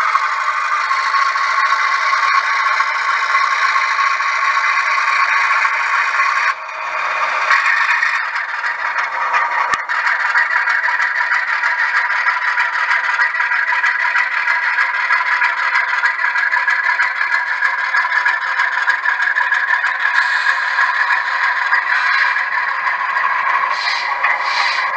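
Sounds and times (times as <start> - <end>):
model train rattling: 0.0 - 24.9.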